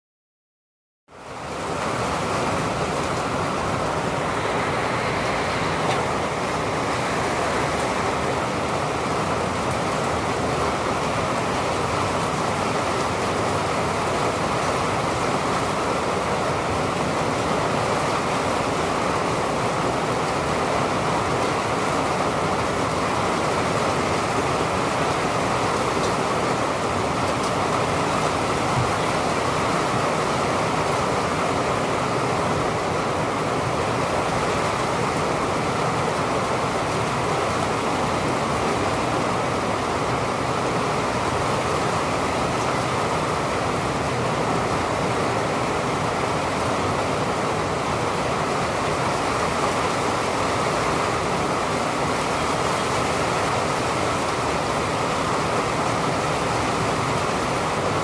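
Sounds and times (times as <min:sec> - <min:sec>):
steady rain: 0:01.1 - 0:58.0.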